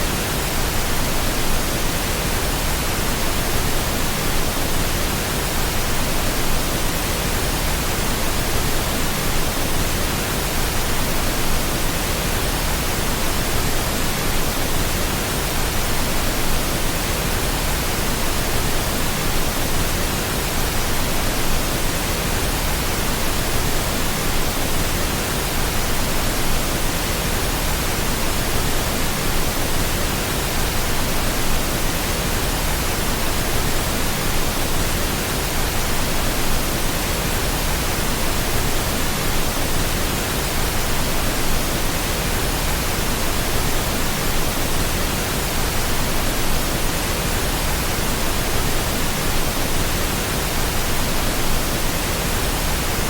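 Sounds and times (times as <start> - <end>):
steady pink noise hiss: 0.0 - 53.0.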